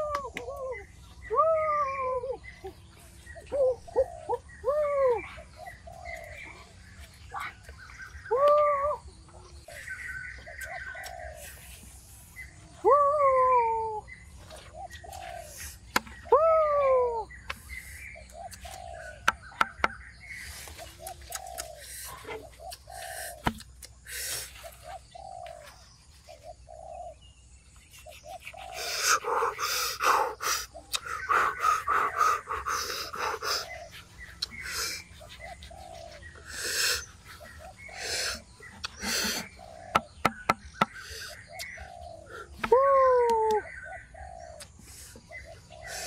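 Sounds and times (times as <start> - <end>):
doves cooing: 0.0 - 11.6, 13.2 - 17.4, 18.0 - 19.8, 20.6 - 23.5, 24.2 - 27.2, 28.0 - 46.0
birds chirping: 0.0 - 46.0.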